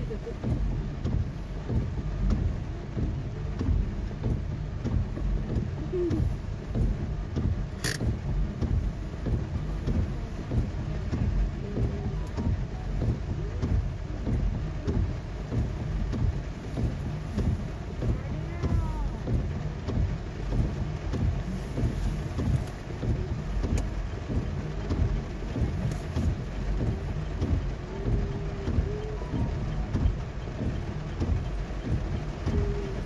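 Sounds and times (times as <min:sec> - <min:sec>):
heavy rain on car roof: 0:00.0 - 0:33.0
low rumble: 0:00.0 - 0:33.0.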